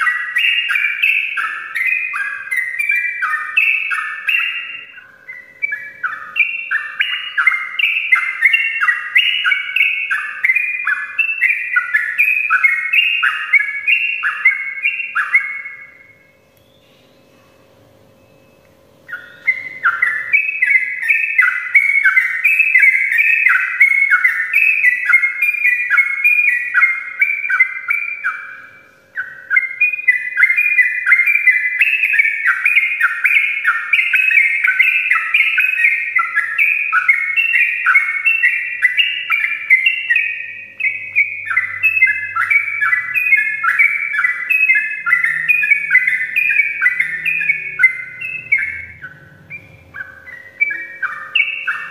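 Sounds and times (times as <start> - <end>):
bulbul singing: 0.0 - 51.9.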